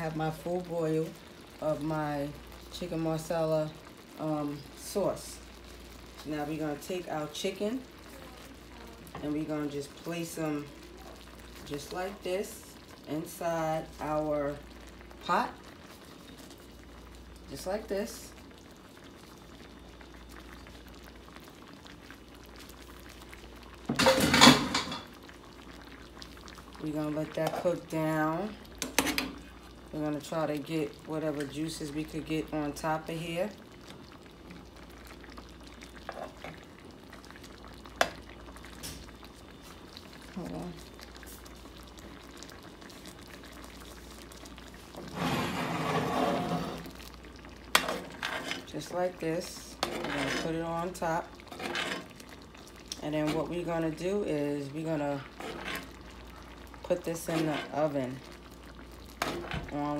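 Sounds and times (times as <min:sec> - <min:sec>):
sauce simmering in skillet: 0:00.0 - 0:59.9.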